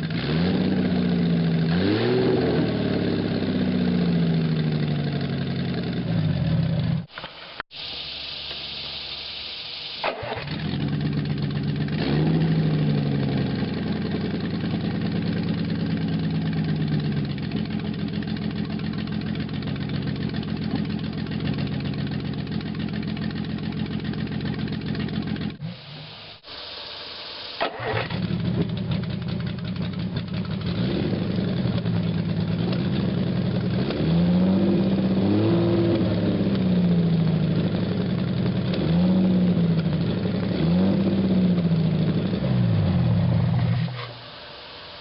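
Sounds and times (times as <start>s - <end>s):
car engine revving and idling: 0.0s - 7.1s, 10.2s - 26.5s, 27.6s - 45.0s.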